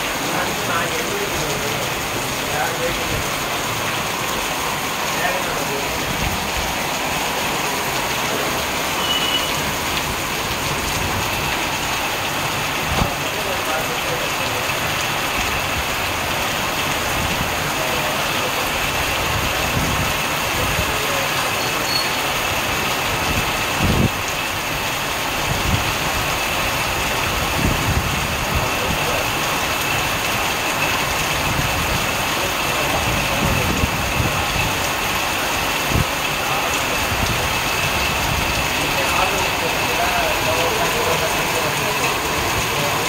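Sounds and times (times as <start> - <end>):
heavy rain on street and cars: 0.0 - 43.0.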